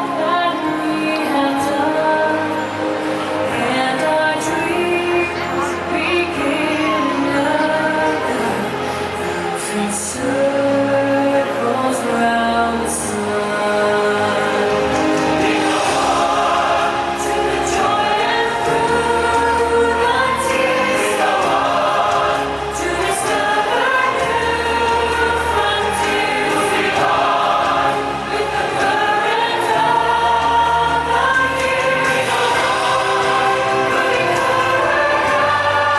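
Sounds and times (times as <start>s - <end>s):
choir singing sustained chords: 0.0s - 35.9s
orchestral music: 0.0s - 35.9s.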